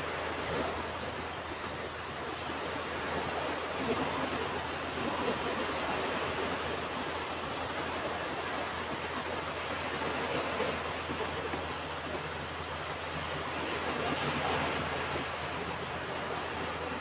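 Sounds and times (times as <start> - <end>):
ocean waves washing onto beach: 0.0 - 17.0.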